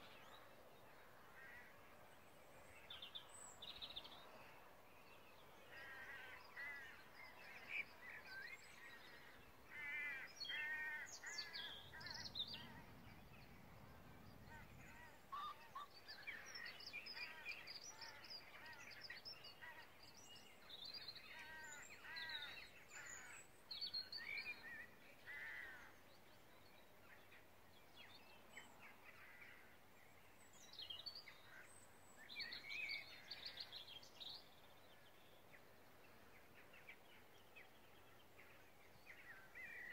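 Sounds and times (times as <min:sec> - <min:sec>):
small birds chirping: 0:02.6 - 0:39.9.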